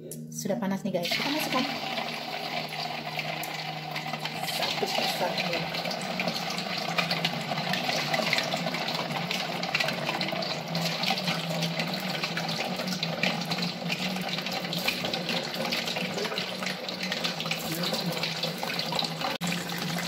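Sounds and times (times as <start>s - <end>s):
deep-frying sizzle and bubbling: 1.1s - 20.0s.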